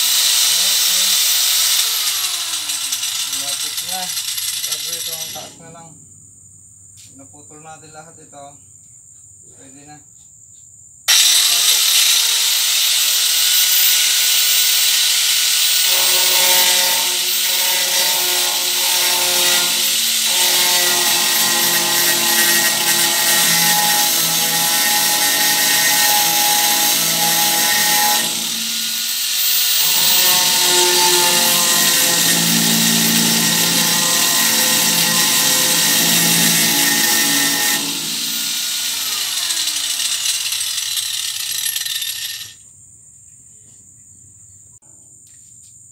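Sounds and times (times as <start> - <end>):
angle grinder grinding steel: 0.0 - 5.6, 11.1 - 42.6.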